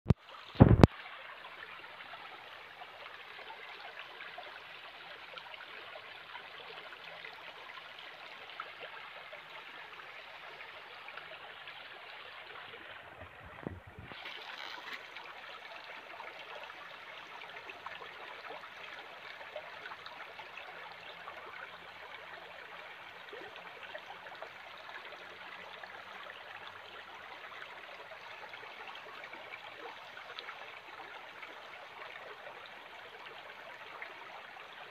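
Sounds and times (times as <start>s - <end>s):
stream running over stones: 0.1s - 34.9s.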